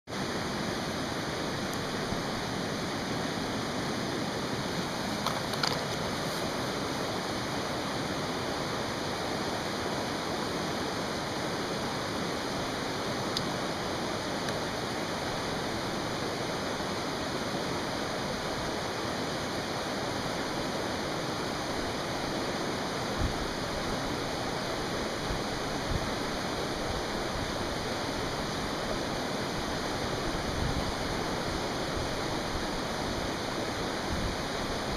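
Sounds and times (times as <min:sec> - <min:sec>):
mountain stream rushing: 0:00.1 - 0:34.9.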